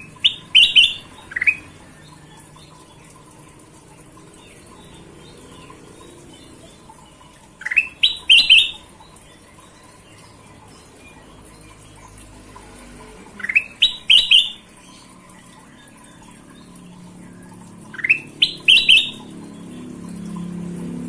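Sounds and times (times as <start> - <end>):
bird chirping: 0.0 - 12.4, 13.4 - 20.6.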